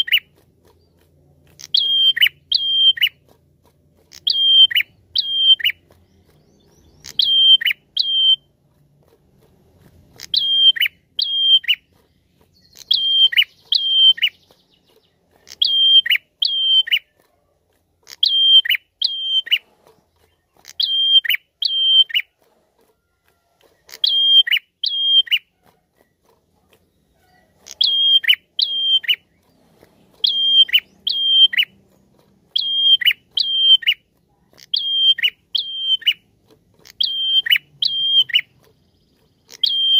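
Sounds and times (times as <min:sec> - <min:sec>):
bird singing sharp high chirps: 0:00.0 - 0:01.0, 0:01.6 - 0:03.2, 0:04.1 - 0:08.5, 0:10.2 - 0:17.2, 0:18.1 - 0:22.3, 0:23.8 - 0:25.5, 0:26.9 - 0:39.9.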